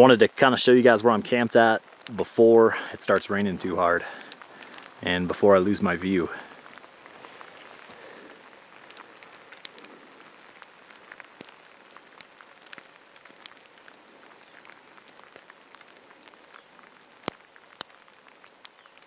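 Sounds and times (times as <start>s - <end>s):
raindrop ticks: 0.0s - 19.0s
steady rain: 0.0s - 19.0s.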